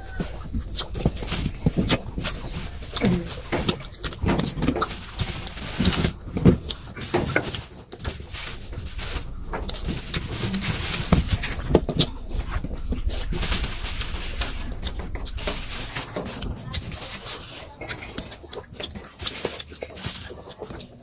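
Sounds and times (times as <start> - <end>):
chewing and lip-smacking: 0.0 - 21.0.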